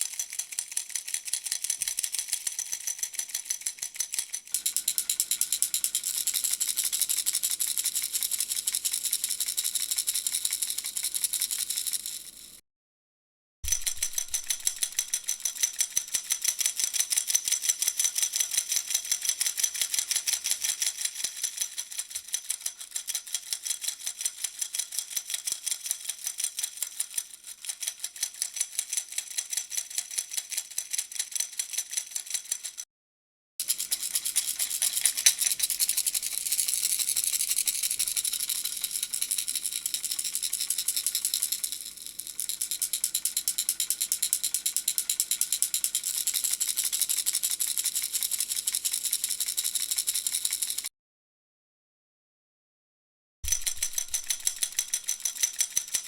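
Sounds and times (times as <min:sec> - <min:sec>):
baby rattle shaken rapidly: 0:00.0 - 0:12.5, 0:13.7 - 0:32.8, 0:33.6 - 0:50.9, 0:53.5 - 0:56.0.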